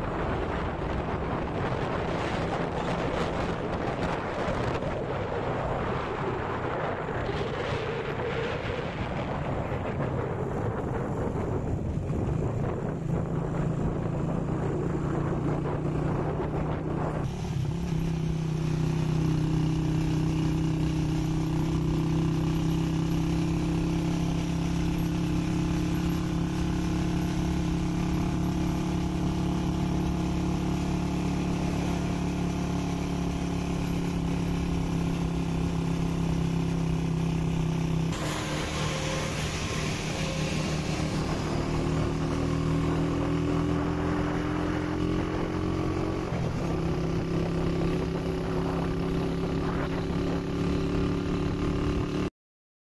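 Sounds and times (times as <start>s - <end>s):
road and wind noise: 0.0s - 52.3s
vehicle engine running: 0.0s - 52.3s.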